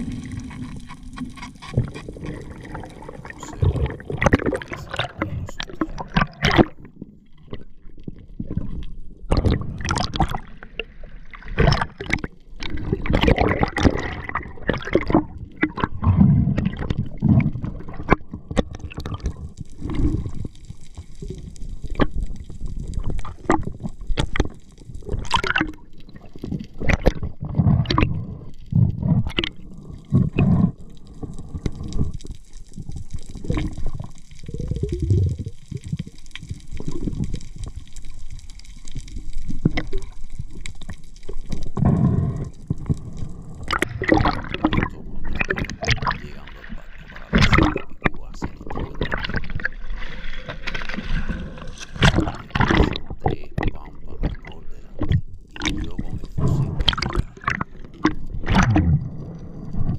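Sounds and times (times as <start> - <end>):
underwater splashing and gurgling: 0.0 - 59.9.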